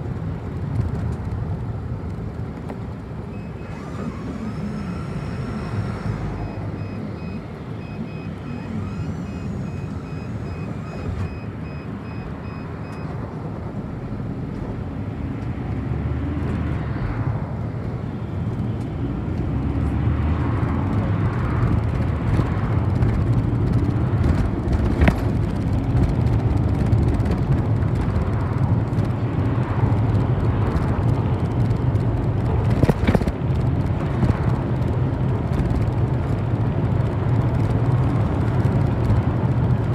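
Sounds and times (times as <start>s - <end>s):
bus engine running: 0.0s - 39.9s
road rumble: 0.0s - 39.9s.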